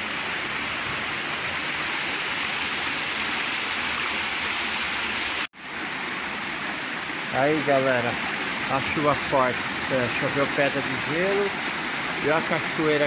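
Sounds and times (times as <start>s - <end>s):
water rushing down concrete steps: 0.0s - 13.0s.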